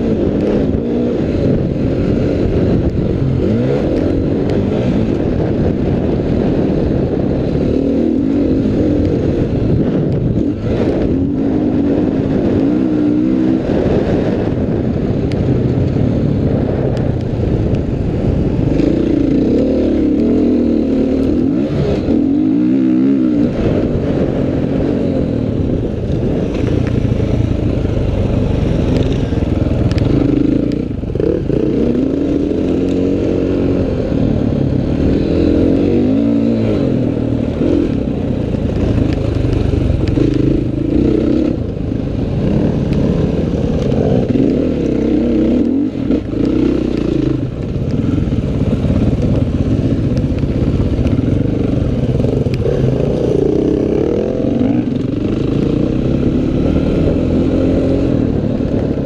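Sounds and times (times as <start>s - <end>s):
dirt bike engine revving: 0.0s - 14.7s, 18.2s - 59.0s.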